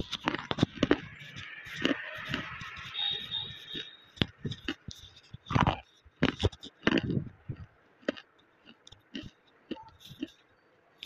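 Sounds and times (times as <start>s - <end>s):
slate crunching between teeth: 0.0s - 10.5s.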